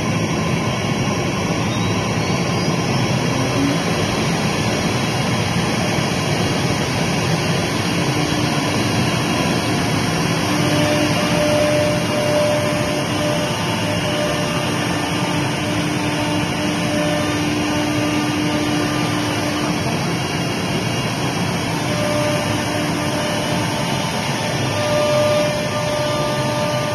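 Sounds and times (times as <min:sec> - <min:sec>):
router machine running: 0:00.0 - 0:26.9.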